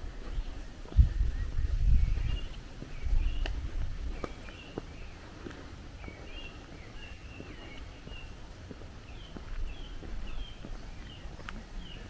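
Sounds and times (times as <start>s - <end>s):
footsteps crunching on gravel: 0.0s - 12.0s
small birds chirping: 0.0s - 12.0s.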